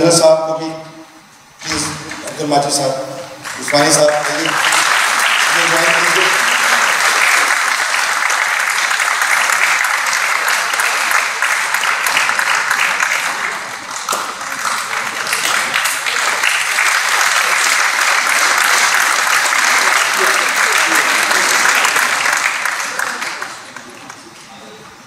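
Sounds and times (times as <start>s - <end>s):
audience applauding: 3.4s - 24.4s.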